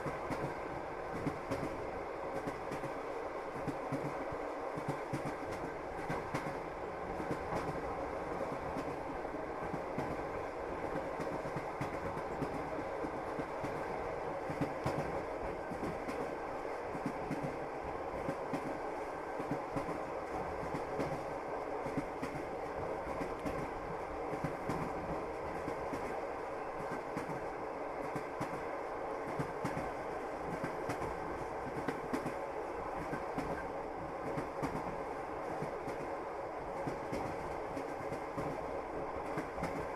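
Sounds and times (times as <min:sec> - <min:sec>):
railway carriage rumbling: 0:00.0 - 0:39.9.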